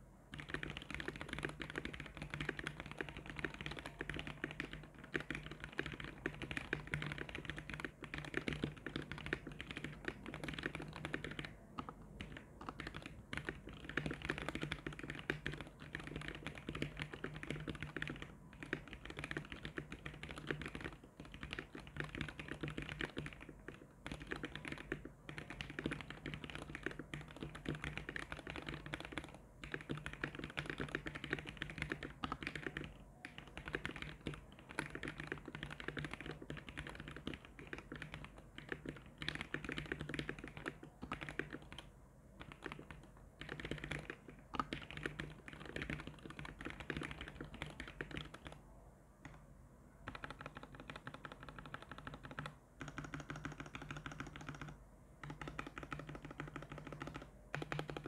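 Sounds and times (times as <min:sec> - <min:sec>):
mechanical keyboard typing: 0:00.3 - 0:48.6, 0:50.0 - 0:58.0.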